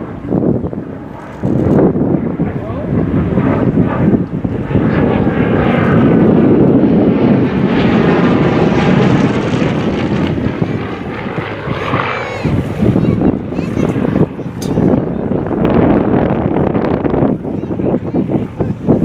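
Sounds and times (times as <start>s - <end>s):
aircraft flying past: 0.0s - 19.0s.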